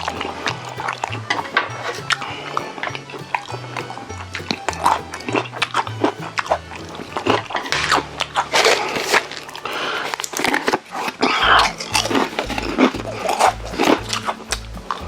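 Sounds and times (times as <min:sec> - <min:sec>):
background music with bass line: 0:00.0 - 0:10.0, 0:11.4 - 0:15.0
close-miked chewing: 0:00.0 - 0:15.0.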